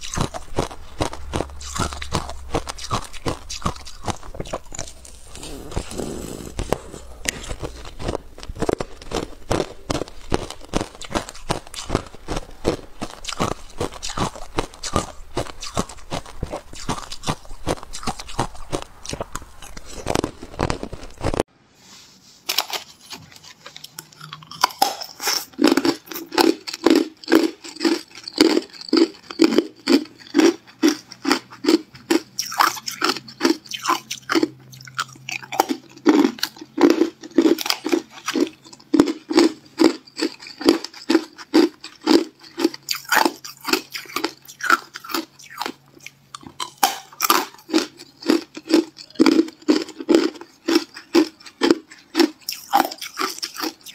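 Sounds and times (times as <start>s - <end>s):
ice cubes crunching in mouth: 0.0s - 21.4s, 22.5s - 53.9s.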